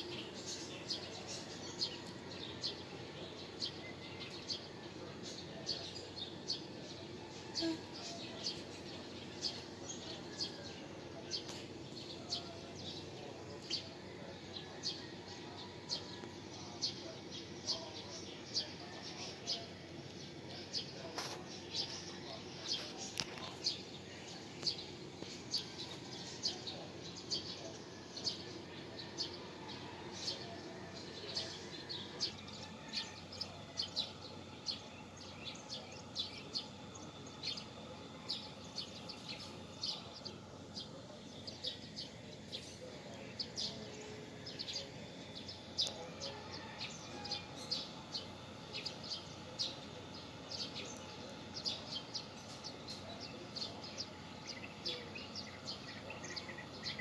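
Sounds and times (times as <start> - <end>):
birds chirping: 0.0 - 57.0
low background noise: 0.0 - 57.0.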